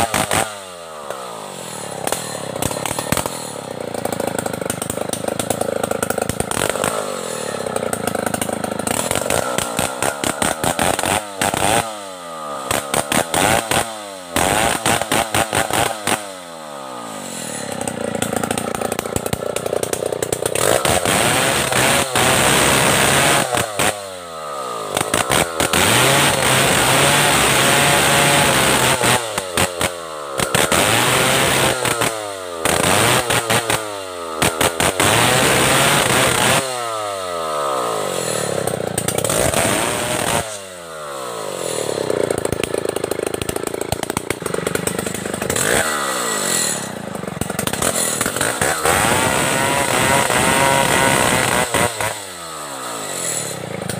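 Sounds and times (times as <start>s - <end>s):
chainsaw revving and cutting: 0.0s - 53.9s.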